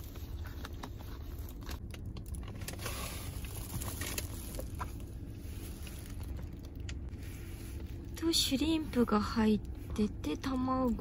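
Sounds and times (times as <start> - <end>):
low car hum: 0.0 - 11.0.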